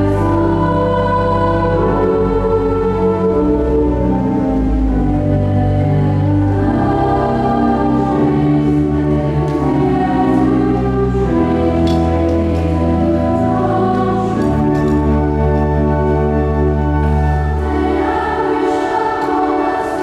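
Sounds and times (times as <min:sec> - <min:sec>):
sustained bass notes: 0:00.0 - 0:18.7
choir singing slow chords: 0:00.0 - 0:20.0.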